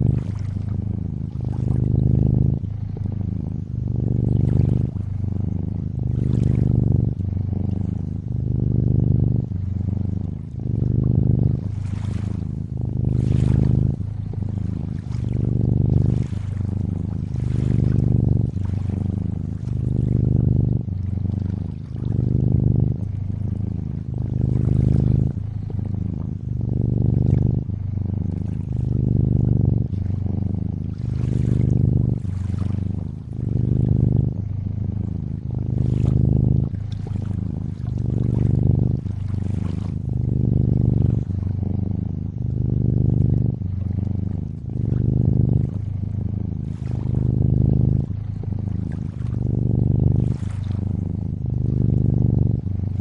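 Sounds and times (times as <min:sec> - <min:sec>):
trickling lake water: 0:00.0 - 0:34.4, 0:35.0 - 0:41.5, 0:42.2 - 0:53.0
cat purring: 0:00.0 - 0:53.0.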